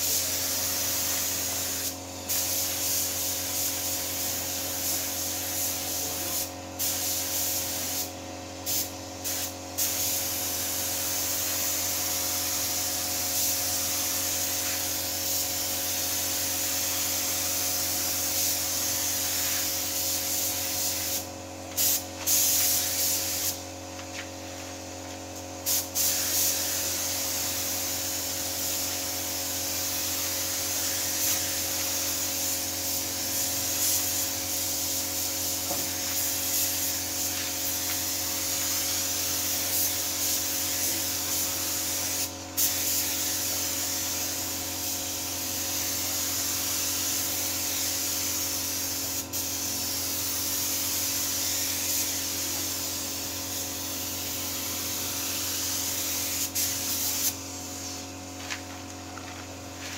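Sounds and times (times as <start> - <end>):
spray gun hissing: 0.0 - 58.7.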